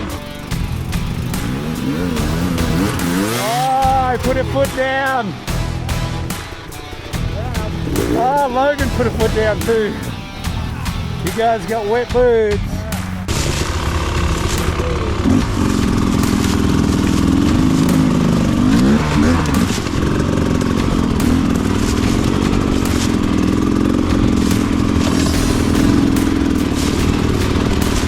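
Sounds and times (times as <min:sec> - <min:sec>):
bike clattering over rough ground: 0:00.0 - 0:28.0
dirt bike engine revving: 0:00.0 - 0:28.0.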